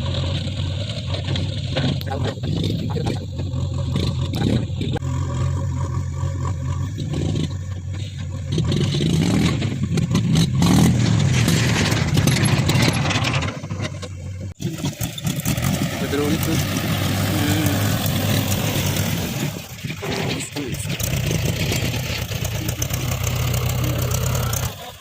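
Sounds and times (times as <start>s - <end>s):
diesel engine revving: 0.0s - 25.0s.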